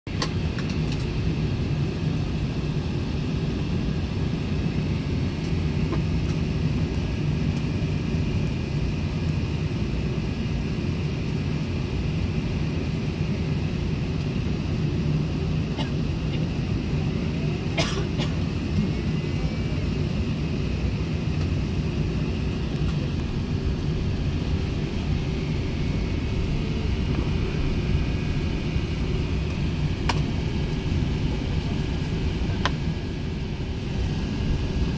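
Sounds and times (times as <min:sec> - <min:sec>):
airliner engines droning: 0:00.1 - 0:34.9.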